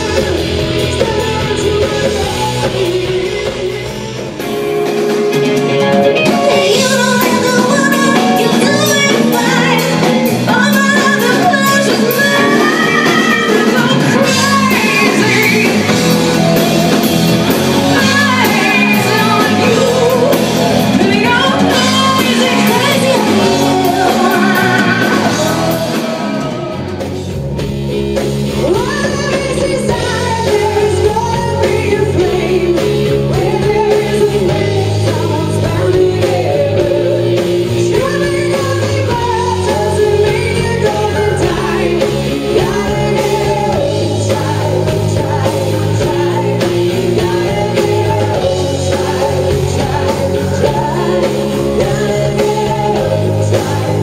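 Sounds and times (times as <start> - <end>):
woman singing: 0.0 - 4.6, 5.9 - 26.8, 28.6 - 54.0
live rock band playing: 0.0 - 54.0.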